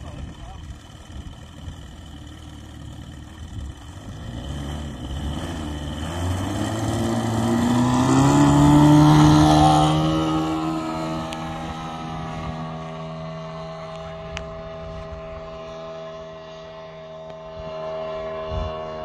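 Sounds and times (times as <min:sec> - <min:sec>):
model plane engine throttling up: 0:00.0 - 0:19.0.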